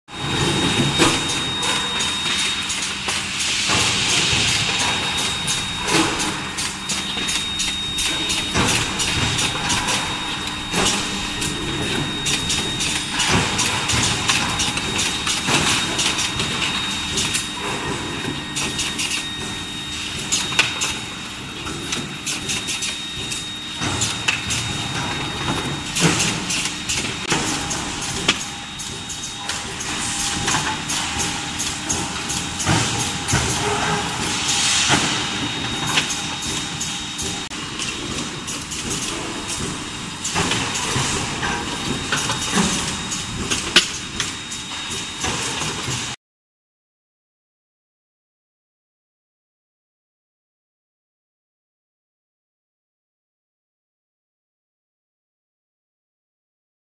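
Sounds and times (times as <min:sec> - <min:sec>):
constant machine noise: 0:00.1 - 0:46.2
machine high whine: 0:00.1 - 0:46.2.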